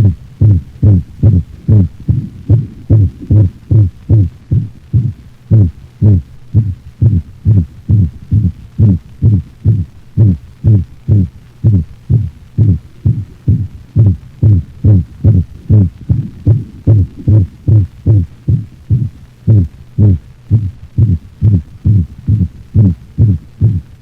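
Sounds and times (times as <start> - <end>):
dog heartbeat thumps: 0.0 - 23.8.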